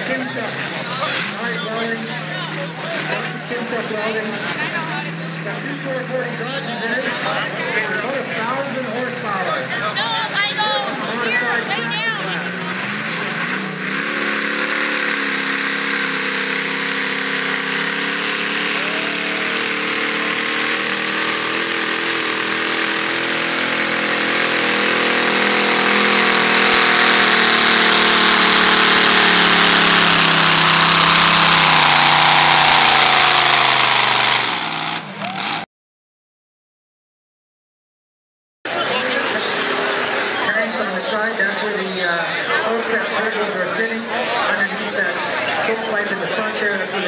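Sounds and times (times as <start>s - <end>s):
tractor engine at full throttle: 0.0s - 35.7s, 38.7s - 47.0s.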